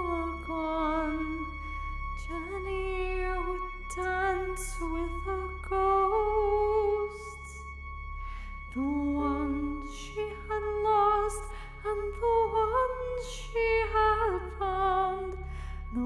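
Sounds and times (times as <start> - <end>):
woman singing with vibrato: 0.0 - 1.5, 2.2 - 7.6, 8.7 - 16.0
sustained backing tones: 0.0 - 16.0.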